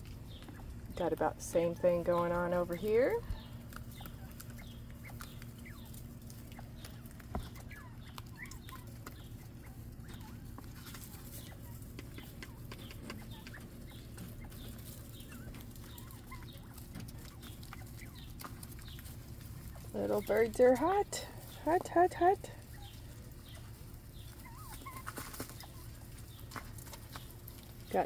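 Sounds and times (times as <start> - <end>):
quail chirps and peeps: 0.0 - 28.0.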